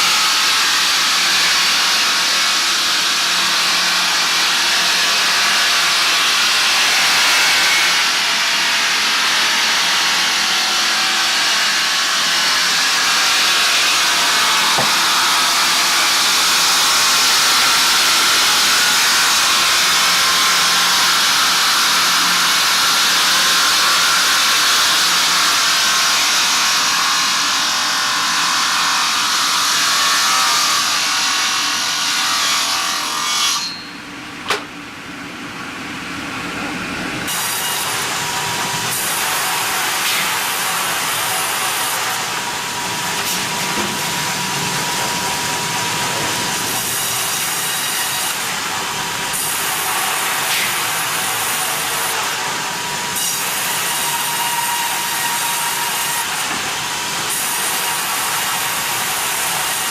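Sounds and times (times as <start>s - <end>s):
saw cutting through wood: 0.0s - 33.9s, 37.2s - 59.9s.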